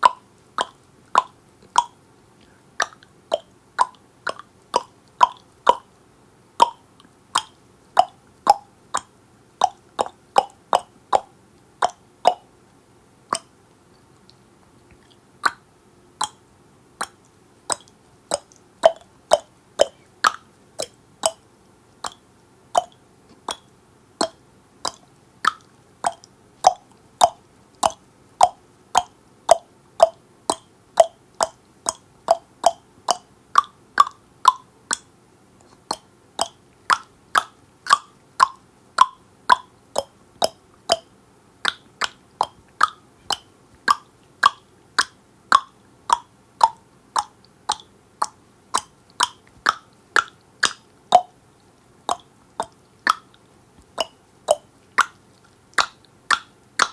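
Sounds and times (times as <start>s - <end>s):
tongue clicking: 0.0s - 5.9s, 6.6s - 12.6s, 13.3s - 51.4s, 52.1s - 56.9s.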